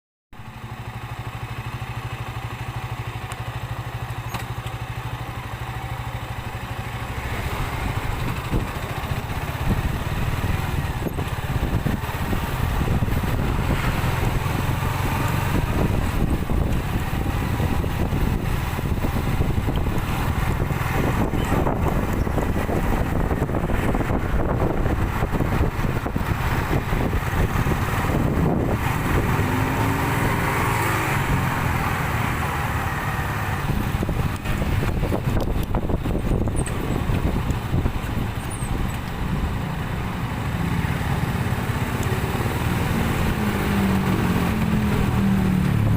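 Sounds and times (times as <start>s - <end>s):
road noise: 0.3s - 45.9s
car engines running: 0.4s - 45.9s
motorcycle engine: 0.4s - 45.9s.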